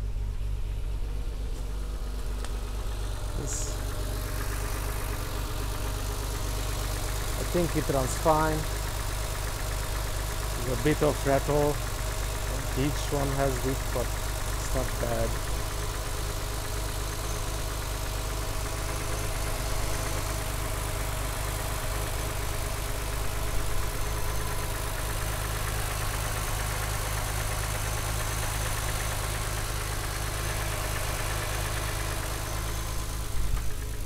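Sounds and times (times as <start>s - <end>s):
car engine idling with light rattle: 0.0s - 34.0s.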